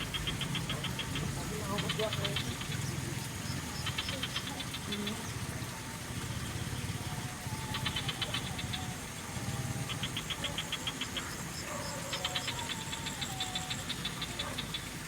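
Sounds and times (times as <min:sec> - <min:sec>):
high-pitched clicking frog calls: 0:00.0 - 0:05.8, 0:07.0 - 0:15.0
frogs croaking: 0:00.0 - 0:15.0.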